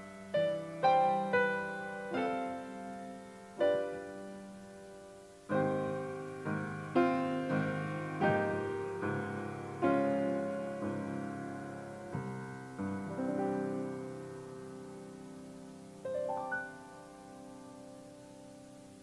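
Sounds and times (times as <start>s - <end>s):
piano playing slow chords: 0.0s - 19.0s.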